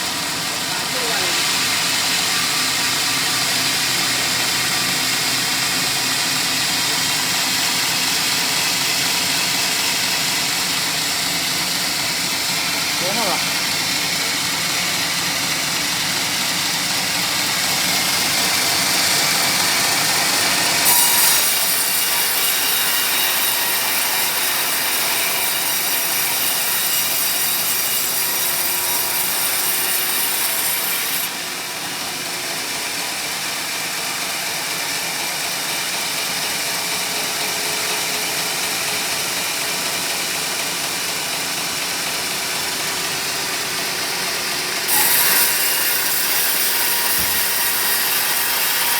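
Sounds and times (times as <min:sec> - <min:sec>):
saw cutting through log: 0:00.0 - 0:48.9.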